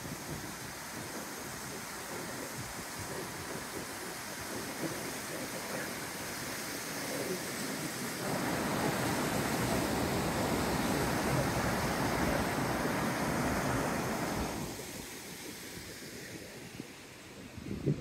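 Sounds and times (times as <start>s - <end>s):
river rapids rushing over rocks: 0.6s - 17.2s.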